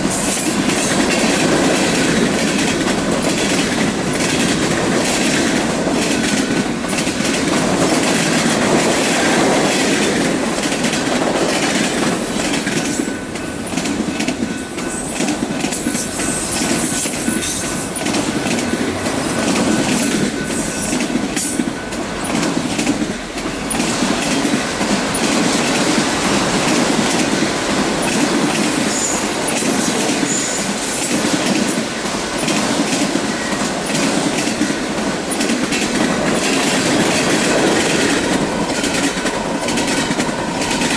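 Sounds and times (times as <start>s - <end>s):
clickety-clack over rail joints: 0.0s - 40.9s.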